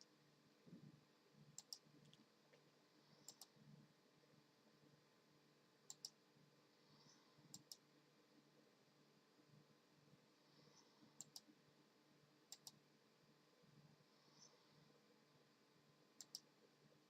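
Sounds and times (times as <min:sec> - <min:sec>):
quiet steady hum: 0:00.0 - 0:17.0.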